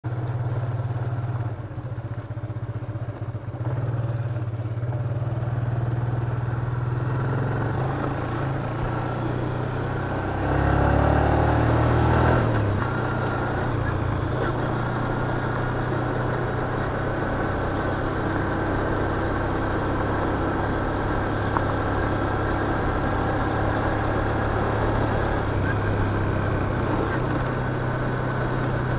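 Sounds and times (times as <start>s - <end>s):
small motorcycle engine running: 0.0s - 28.9s.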